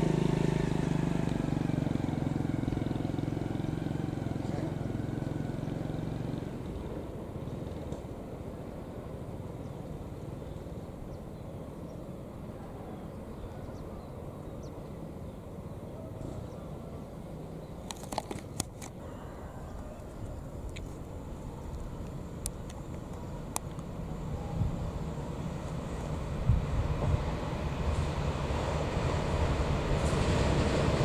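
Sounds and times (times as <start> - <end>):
distant train rumble: 0.0 - 31.0.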